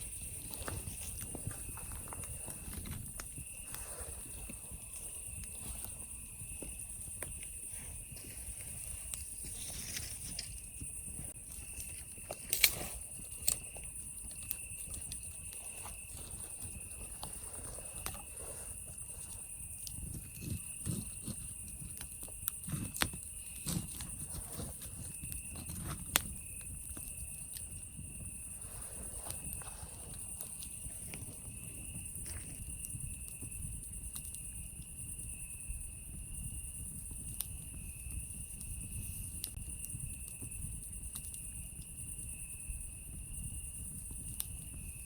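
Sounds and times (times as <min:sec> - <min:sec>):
campfire crackling and popping: 0:00.0 - 0:45.0
cicadas chorus: 0:00.0 - 0:45.0
night insects trilling: 0:00.0 - 0:45.0
soft puffs of flame: 0:00.0 - 0:45.0.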